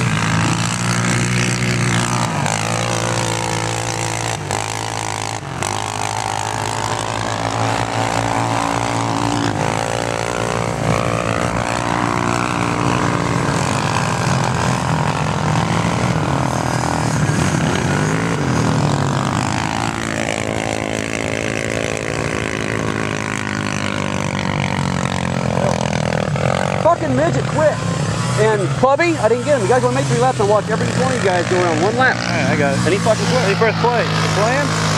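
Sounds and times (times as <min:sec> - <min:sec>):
quad engines revving: 0:00.0 - 0:34.9.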